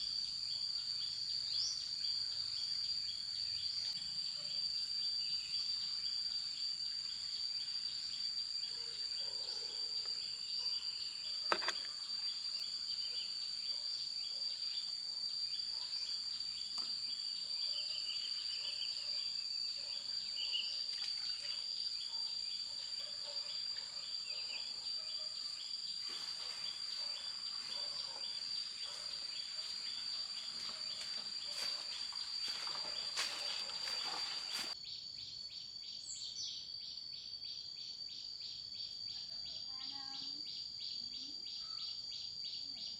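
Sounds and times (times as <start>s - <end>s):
insect chorus drone: 0.0s - 42.9s.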